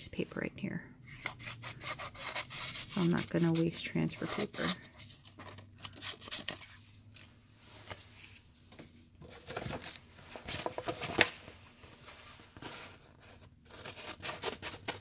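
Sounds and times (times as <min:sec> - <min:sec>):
paper rustling: 0:01.2 - 0:15.0.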